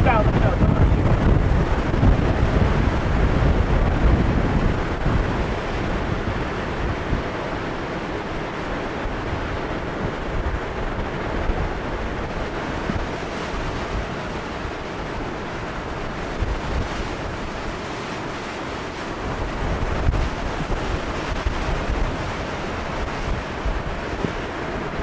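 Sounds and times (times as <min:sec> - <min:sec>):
strong wind rushing: 0:00.0 - 0:25.0
wind buffeting microphone: 0:00.0 - 0:25.0.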